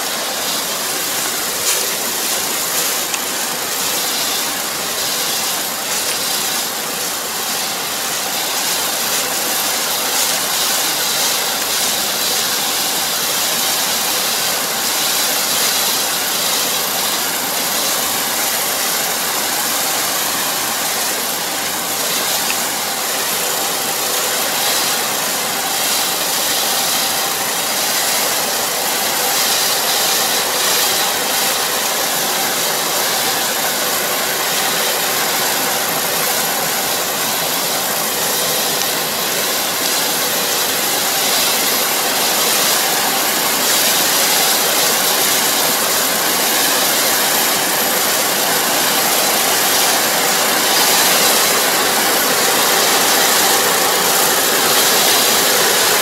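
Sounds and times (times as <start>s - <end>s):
constant high hiss: 0.0s - 56.0s.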